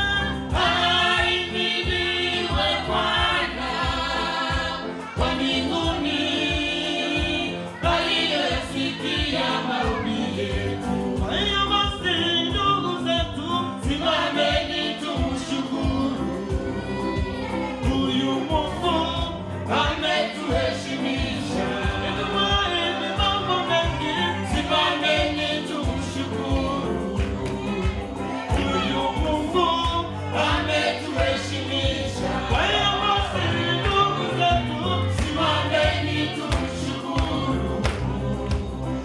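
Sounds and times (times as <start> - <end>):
bass line: 0.0 - 39.0
drum beat: 0.0 - 39.0
group singing gospel song: 0.0 - 39.0.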